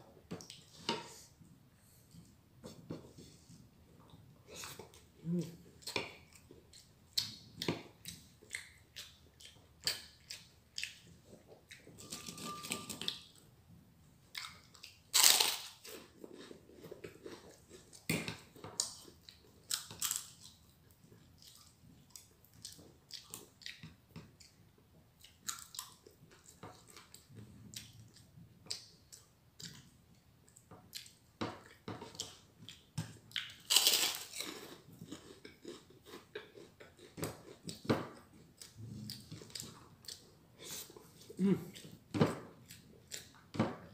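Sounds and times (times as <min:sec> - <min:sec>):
person chewing with crunches: 0:03.0 - 0:13.4, 0:14.3 - 0:24.6, 0:25.2 - 0:43.9.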